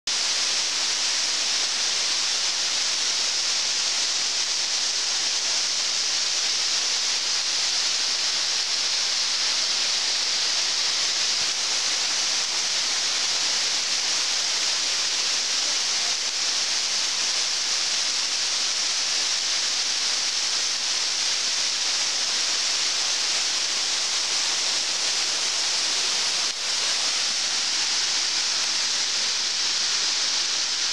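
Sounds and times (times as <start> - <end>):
waterfall rushing: 0.1 - 30.9.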